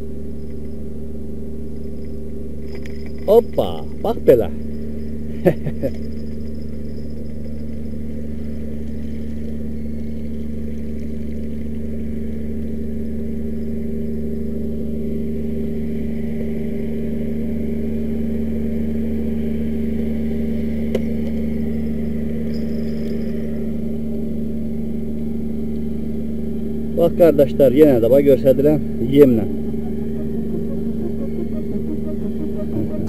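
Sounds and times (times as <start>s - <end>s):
engine humming steadily: 0.0s - 33.0s.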